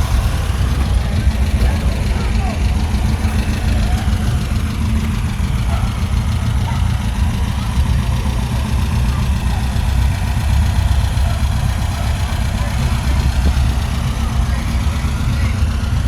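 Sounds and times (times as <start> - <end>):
car engine idling: 0.0 - 16.0
faint voices: 0.0 - 16.0.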